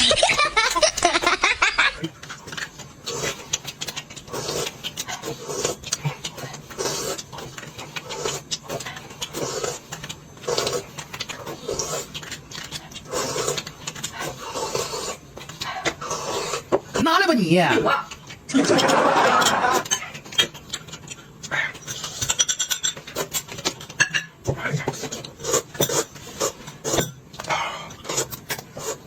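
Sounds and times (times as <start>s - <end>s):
person chewing and smacking: 1.9s - 17.0s, 18.0s - 29.0s.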